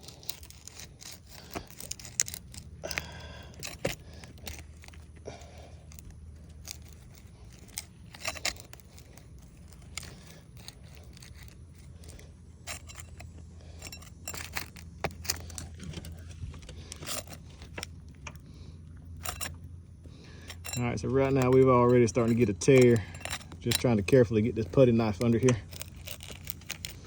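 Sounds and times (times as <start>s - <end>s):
putty knife scraping shingles: 0.0s - 27.0s
steady low hum: 0.0s - 27.0s.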